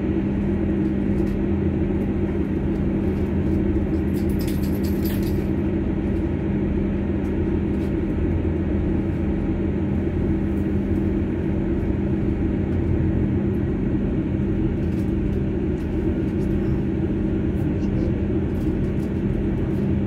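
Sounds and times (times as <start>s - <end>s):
underfloor engine: 0.0s - 20.0s.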